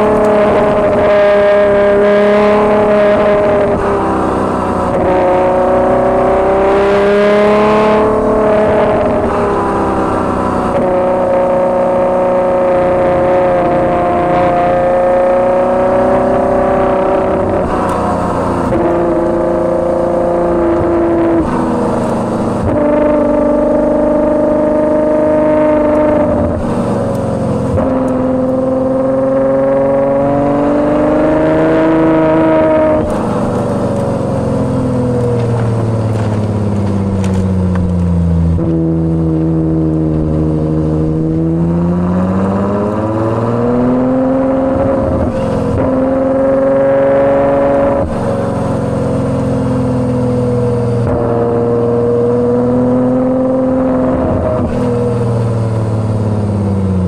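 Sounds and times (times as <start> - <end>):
sports car exhaust note: 0.0 - 57.0.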